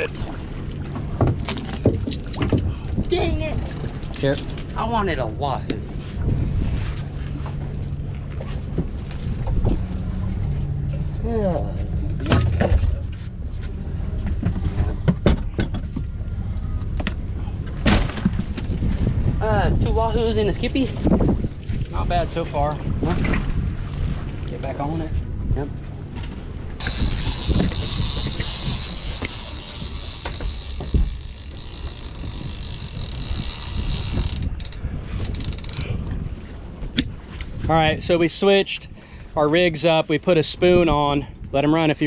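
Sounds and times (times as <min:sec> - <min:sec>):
wind buffeting microphone: 0:00.0 - 0:38.3
boat engine running: 0:00.0 - 0:41.0.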